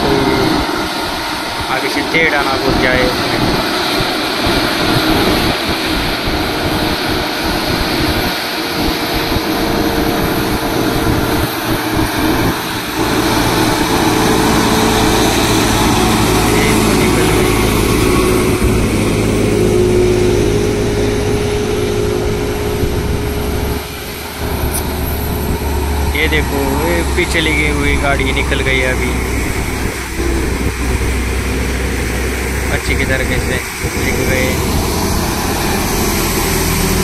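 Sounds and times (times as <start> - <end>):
truck diesel engine labouring: 0.0 - 37.0.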